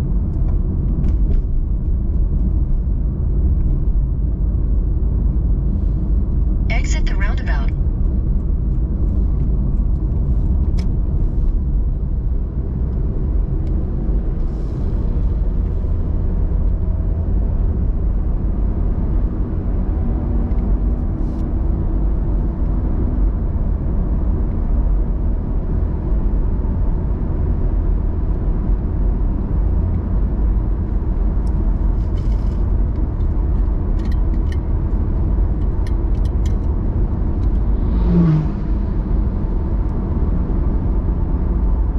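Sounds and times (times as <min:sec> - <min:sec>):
road and tyre rumble: 0:00.0 - 0:41.9.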